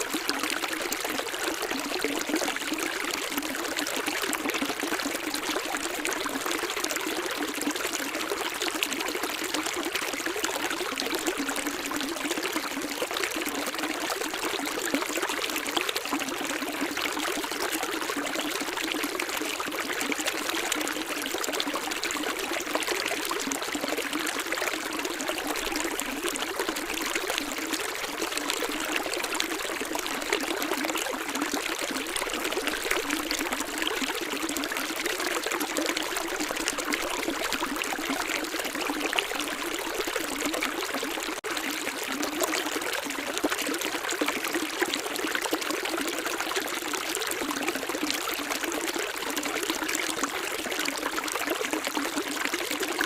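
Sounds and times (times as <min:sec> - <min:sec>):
stream water trickling: 0:00.0 - 0:53.0.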